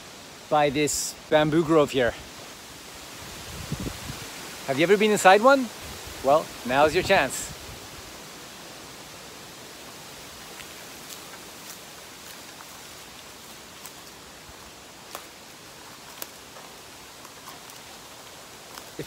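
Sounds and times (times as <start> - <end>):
wind rustling bamboo leaves: 0.0 - 19.0.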